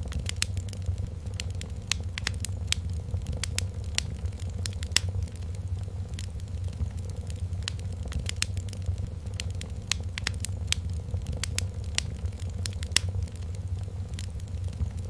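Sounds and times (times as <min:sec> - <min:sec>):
burning wood popping and snapping: 0:00.0 - 0:15.0
low rumble of fire: 0:00.0 - 0:15.0.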